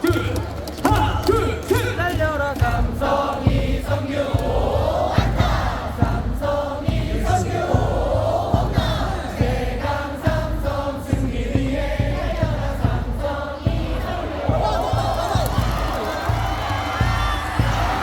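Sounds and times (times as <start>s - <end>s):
crowd singing in unison: 0.0s - 18.0s
steady drum beat: 0.0s - 18.0s.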